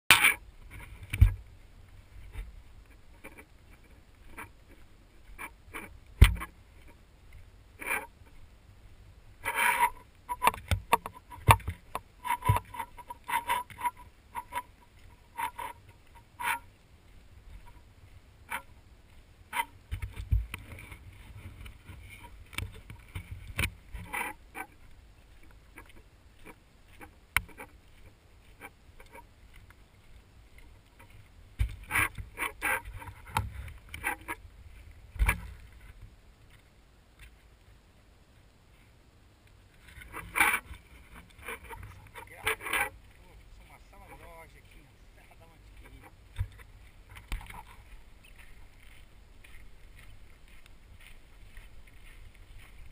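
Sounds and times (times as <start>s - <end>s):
footsteps on dirt road: 0.1s - 52.9s.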